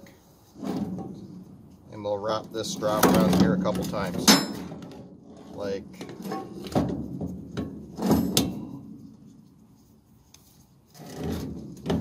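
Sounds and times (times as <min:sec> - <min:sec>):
strap webbing scraping: 0:00.1 - 0:12.0.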